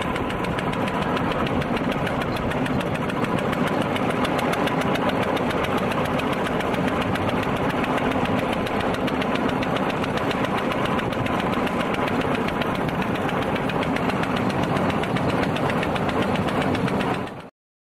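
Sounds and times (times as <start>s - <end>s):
rail trolley engine clattering: 0.0s - 17.5s.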